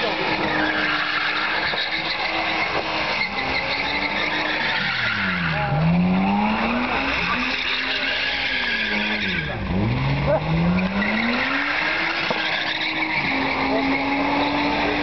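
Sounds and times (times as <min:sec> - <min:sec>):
car engine revving high: 0:00.0 - 0:15.0
tyres squealing: 0:00.0 - 0:15.0.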